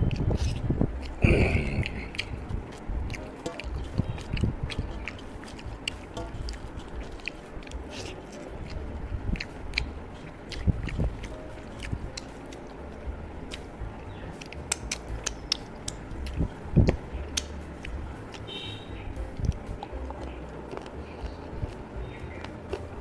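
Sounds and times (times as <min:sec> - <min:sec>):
low thuds: 0:00.0 - 0:07.9, 0:08.5 - 0:23.0
person chewing wetly: 0:00.0 - 0:23.0.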